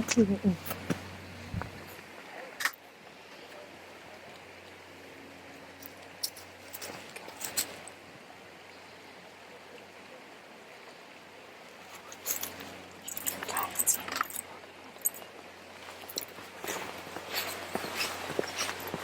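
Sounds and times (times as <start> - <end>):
river flowing: 0.0 - 19.0.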